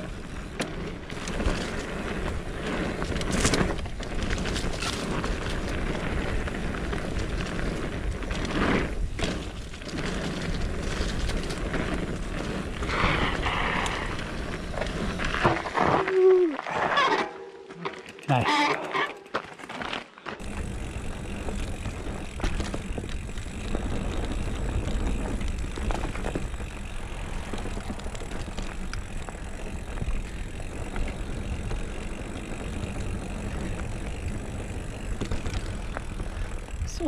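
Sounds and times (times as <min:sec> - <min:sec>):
bike tyre noise: 0:00.0 - 0:37.0
bike knocking over bumps: 0:00.4 - 0:36.4.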